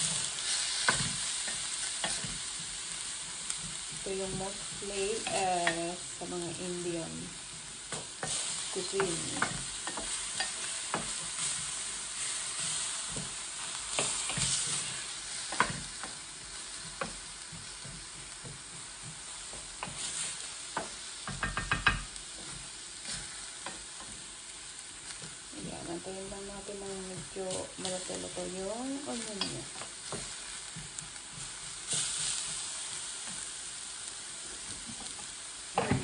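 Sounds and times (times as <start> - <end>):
spatula scraping and tapping pan: 0.0 - 6.0, 7.5 - 24.3, 26.2 - 33.5, 34.6 - 36.0
onion sizzling in a pan: 0.0 - 36.0.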